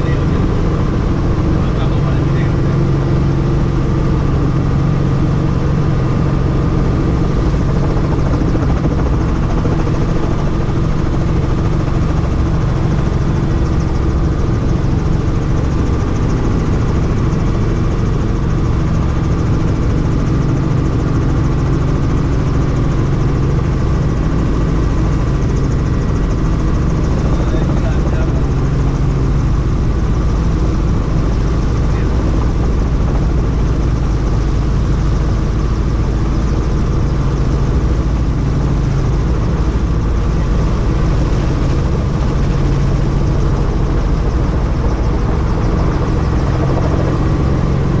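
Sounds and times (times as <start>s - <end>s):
helicopter rotor and engine drone: 0.0s - 48.0s.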